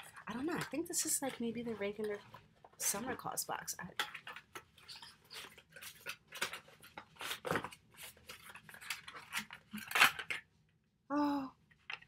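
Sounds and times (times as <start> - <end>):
packaging crinkling and scraping: 0.0 - 10.5.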